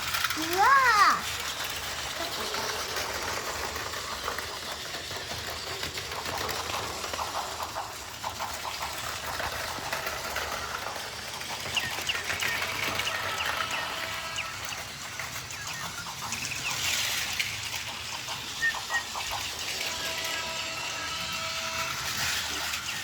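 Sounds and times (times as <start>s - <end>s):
toy train motor whir: 0.0s - 23.0s.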